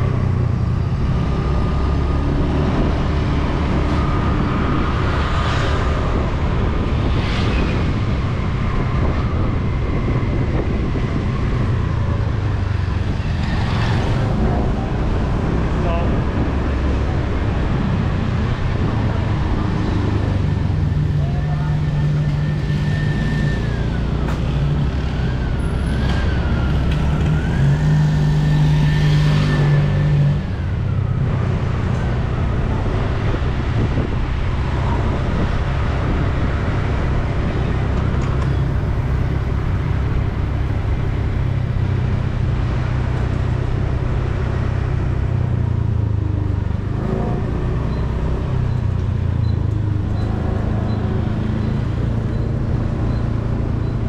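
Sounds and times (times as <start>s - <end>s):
road traffic engine hum: 0.0s - 54.0s.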